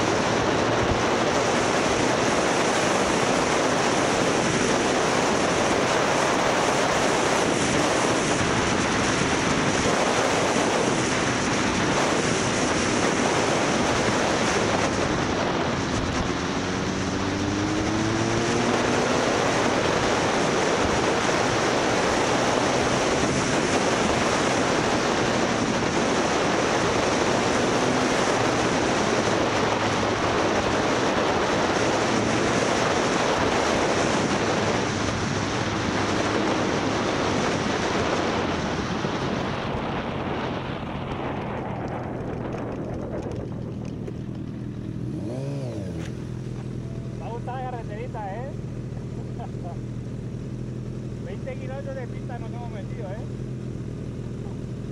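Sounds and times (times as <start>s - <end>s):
motorcycle engine: 0.0s - 54.9s
wind rushing over microphone: 0.0s - 54.9s.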